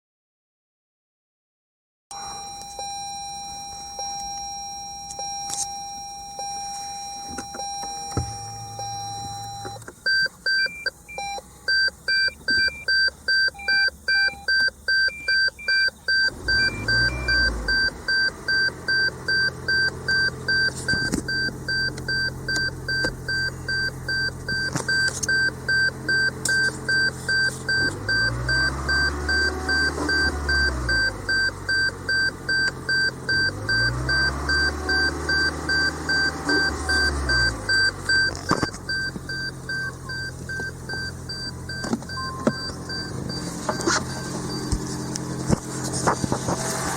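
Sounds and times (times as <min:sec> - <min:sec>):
electronic warning chime beeping: 0:02.1 - 0:45.5
car engine starting and running: 0:02.1 - 0:46.9.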